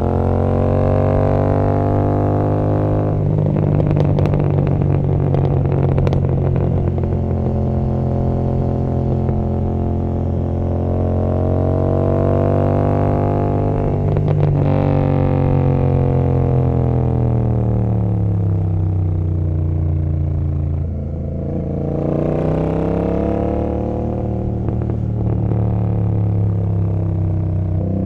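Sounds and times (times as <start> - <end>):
motorcycle exhaust drone: 0.0 - 28.0
motorcycle exhaust popping and crackling: 0.0 - 28.0.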